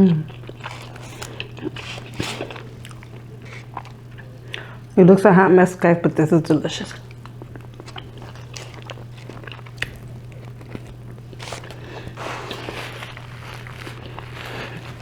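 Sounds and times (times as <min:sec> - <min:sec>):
person chewing food: 0:00.0 - 0:05.0, 0:07.0 - 0:15.0.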